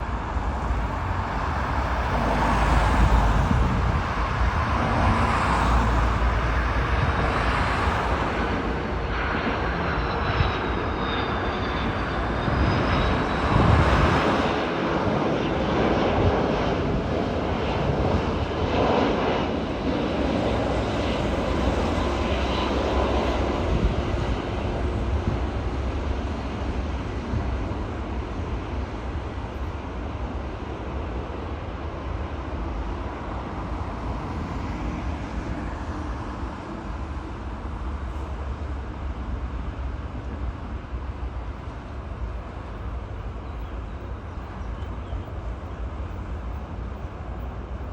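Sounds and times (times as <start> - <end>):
jet airliner passing overhead: 0.0 - 47.9.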